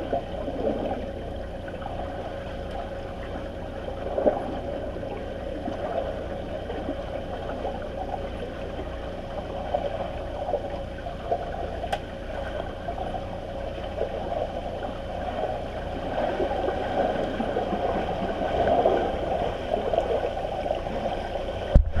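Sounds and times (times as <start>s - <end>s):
underwater splashing and bubbling: 0.0s - 22.0s.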